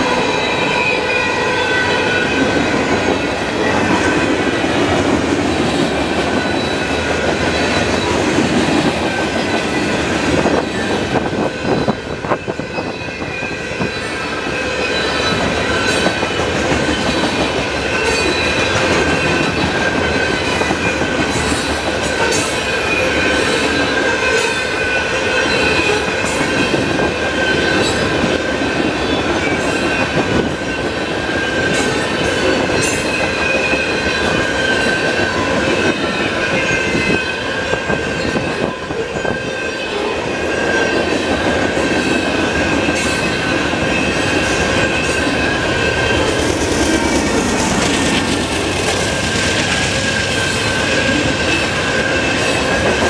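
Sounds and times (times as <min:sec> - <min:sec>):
steel wheels rumbling on rails: 0:00.0 - 0:53.0.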